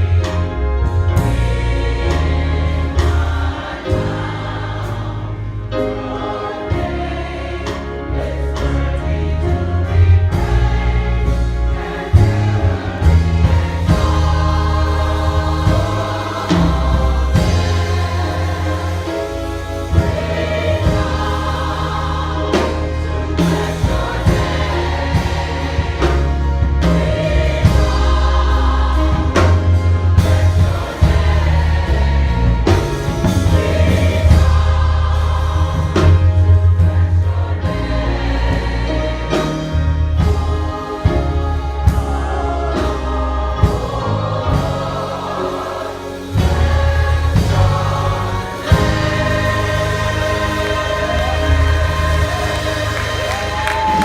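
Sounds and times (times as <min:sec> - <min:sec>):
bass line of held notes: 0:00.0 - 0:54.0
gospel choir singing: 0:00.0 - 0:54.0.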